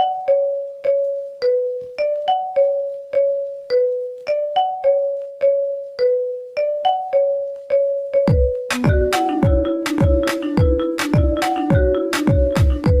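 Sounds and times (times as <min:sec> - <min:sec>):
marimba ringtone melody: 0:00.0 - 0:13.0.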